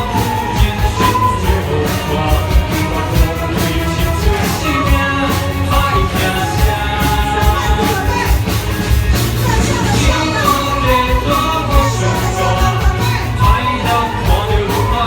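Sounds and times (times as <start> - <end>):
person singing: 0.0 - 8.6, 9.2 - 15.0
orchestra playing: 0.0 - 15.0.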